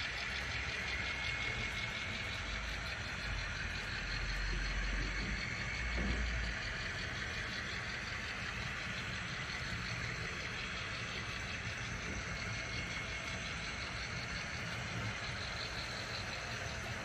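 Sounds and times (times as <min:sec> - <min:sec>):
model train wagons rolling: 0:00.0 - 0:17.0.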